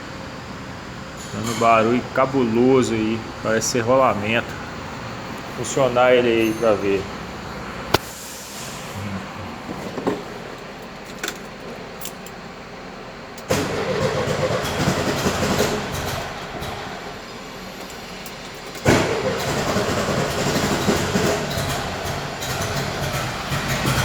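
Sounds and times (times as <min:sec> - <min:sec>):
alternator noise: 0:00.0 - 0:24.0
car engine cranking and starting: 0:00.9 - 0:24.0.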